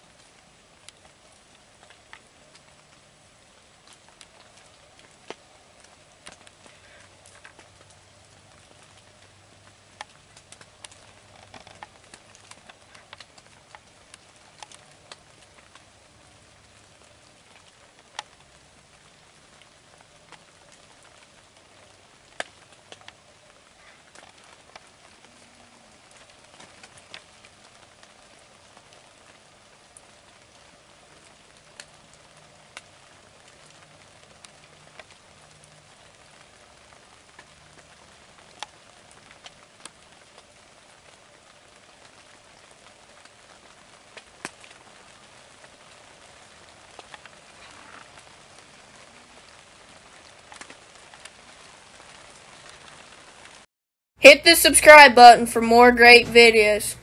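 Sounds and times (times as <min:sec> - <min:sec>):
raindrops ticking: 0:00.0 - 0:53.7
light rain hissing: 0:00.0 - 0:57.0.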